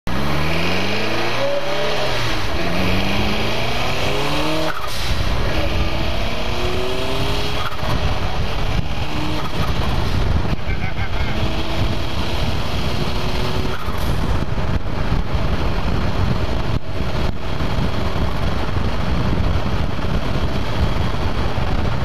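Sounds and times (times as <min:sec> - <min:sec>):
car engine accelerating through gears: 0:00.1 - 0:22.0
wind on microphone: 0:01.0 - 0:22.0.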